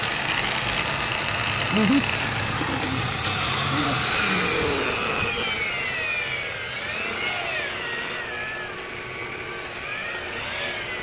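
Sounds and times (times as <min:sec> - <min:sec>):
angle grinder motor whine: 0:00.0 - 0:11.0.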